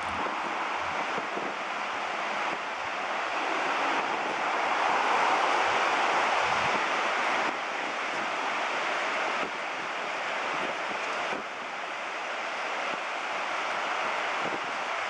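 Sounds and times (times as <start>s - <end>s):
wind buffeting microphone: 0.0s - 12.0s, 14.2s - 14.9s
ocean surf washing: 0.0s - 15.0s.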